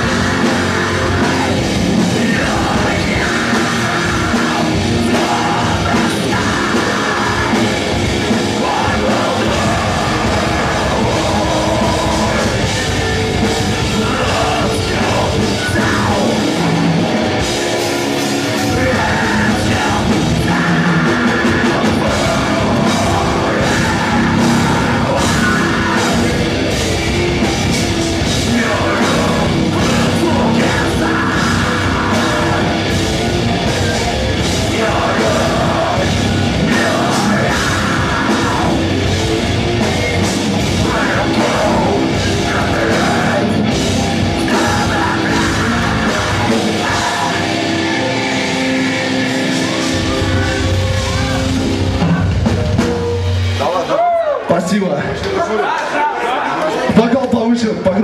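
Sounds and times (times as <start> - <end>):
screamed vocals: 0.0 - 53.0, 53.6 - 54.6
metal band playing: 0.0 - 58.0.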